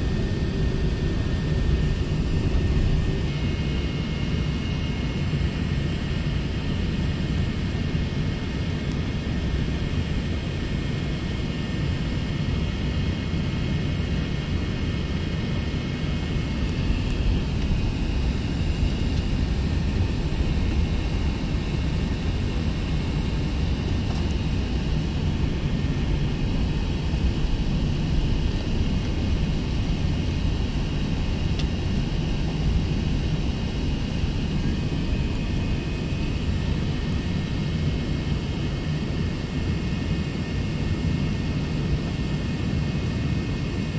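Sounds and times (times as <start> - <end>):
jet engine rumble and whine: 0.0 - 43.9.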